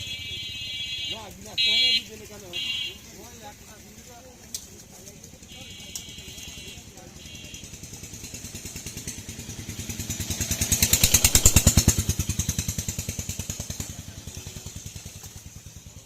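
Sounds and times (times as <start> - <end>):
small engine putter passing: 2.2 - 16.0.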